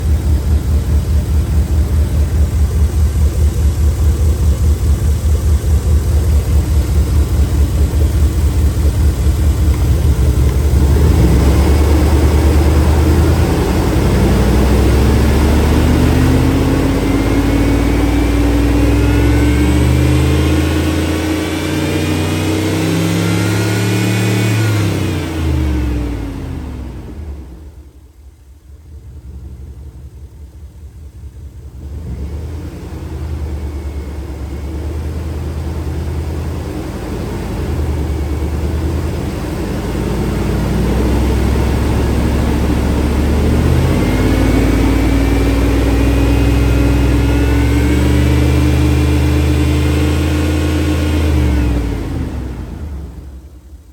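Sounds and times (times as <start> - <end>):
truck engine idling and revving: 0.0 - 53.9.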